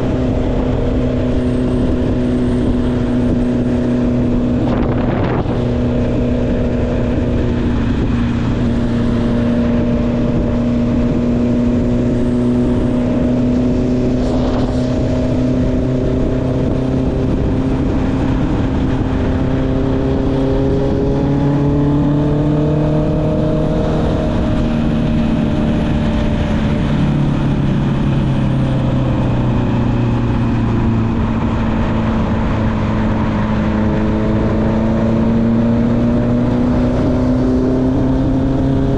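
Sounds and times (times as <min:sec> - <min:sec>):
motorcycle engine cruising: 0:00.0 - 0:38.9
wind rush: 0:00.0 - 0:38.9.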